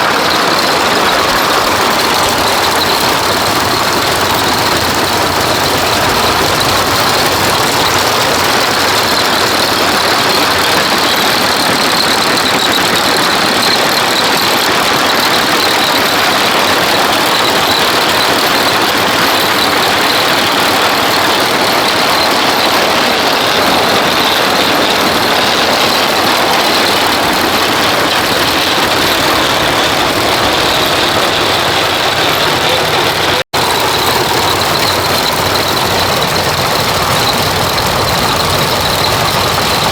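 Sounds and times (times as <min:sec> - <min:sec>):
thresher mechanical clatter and hum: 0:00.0 - 0:39.9.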